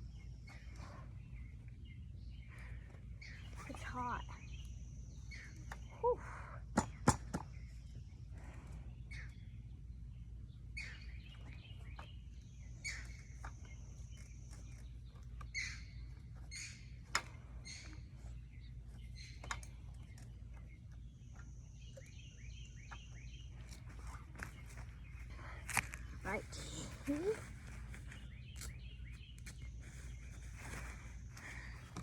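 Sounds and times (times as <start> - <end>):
low background rumble: 0.0 - 32.0
small birds chirping: 0.0 - 32.0.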